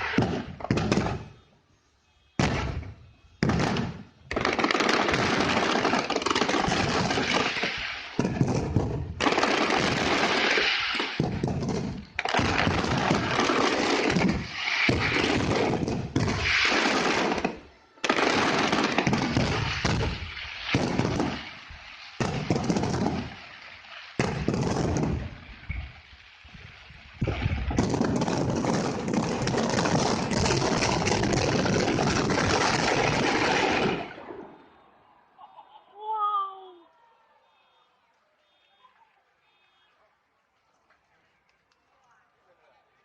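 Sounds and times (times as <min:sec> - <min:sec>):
fireworks banging and crackling: 0:00.0 - 0:34.9.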